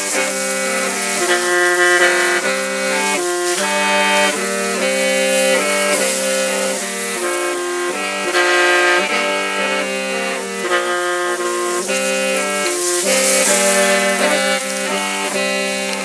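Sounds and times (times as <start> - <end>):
bamboo mouth organ chords: 0.0 - 16.0.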